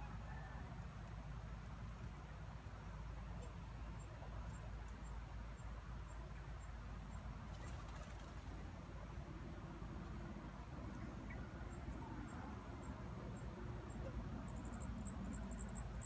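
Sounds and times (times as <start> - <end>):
faint insect calls: 0.0 - 16.0.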